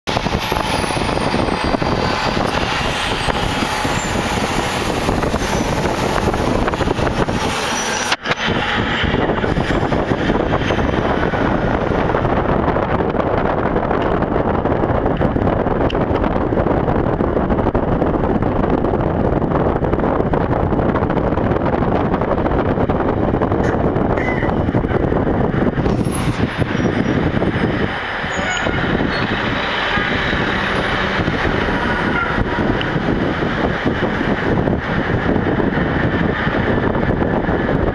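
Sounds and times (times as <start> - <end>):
traffic heard inside car: 0.1 - 37.9.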